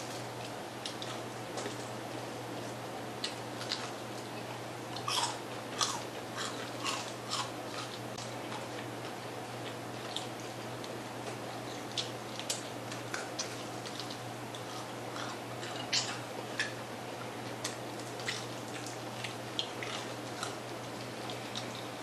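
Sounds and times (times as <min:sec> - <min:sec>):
crunching fried chicken: 0:00.0 - 0:22.0.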